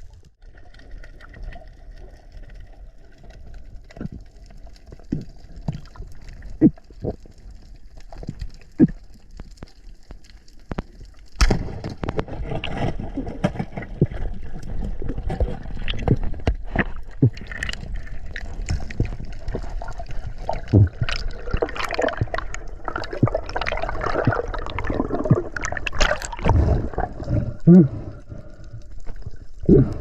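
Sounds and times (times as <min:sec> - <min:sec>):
water bubbling and sloshing: 0:00.0 - 0:30.0.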